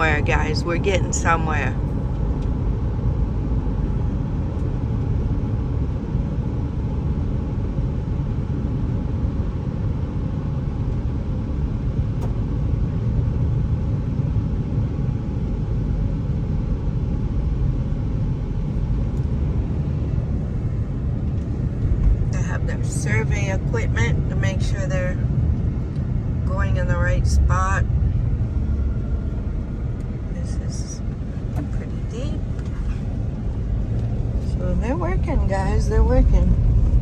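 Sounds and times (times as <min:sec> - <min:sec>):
engine and tyre rumble: 0:00.0 - 0:37.0.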